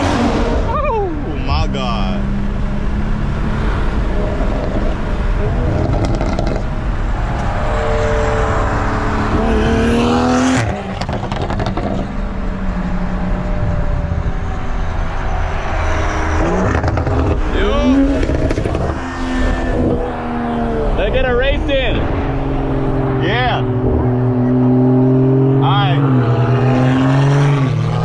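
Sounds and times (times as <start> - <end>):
car exhaust accelerating: 0.0 - 28.0.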